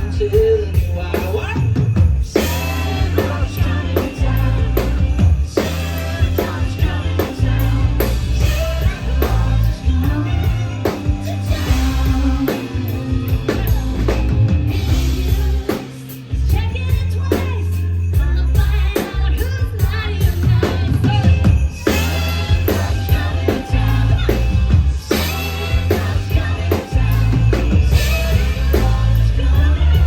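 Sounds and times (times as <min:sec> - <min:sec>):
heavy bass: 0:00.0 - 0:30.0
live band music: 0:00.0 - 0:30.0
steady drum beat: 0:00.0 - 0:30.0
person singing: 0:02.4 - 0:30.0.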